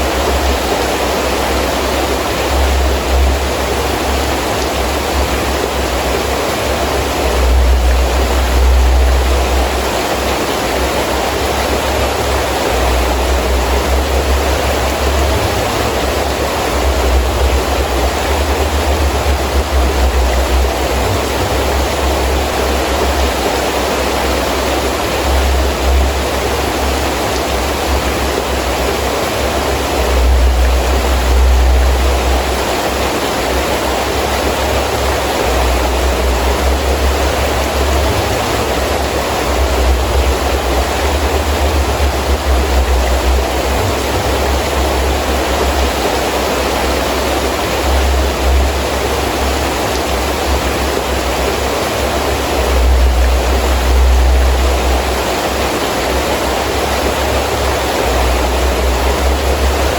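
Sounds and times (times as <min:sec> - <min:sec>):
heavy rain falling: 0:00.0 - 0:59.9
low rumbling: 0:01.9 - 0:59.9.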